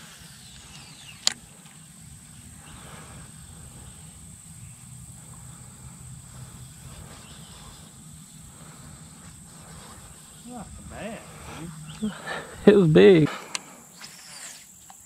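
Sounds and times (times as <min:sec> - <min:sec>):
low hum: 0:00.0 - 0:14.2
high-pitched insect drone: 0:00.0 - 0:15.0.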